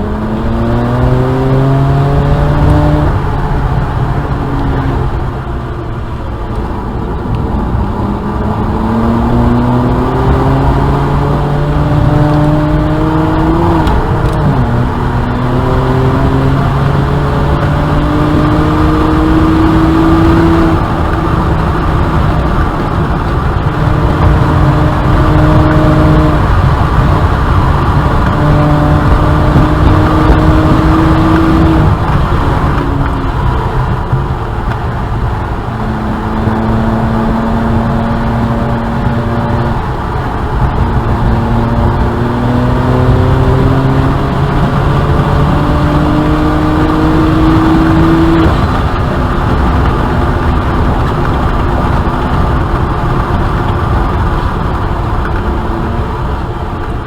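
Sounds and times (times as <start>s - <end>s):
car engine revving under load: 0.0s - 57.0s.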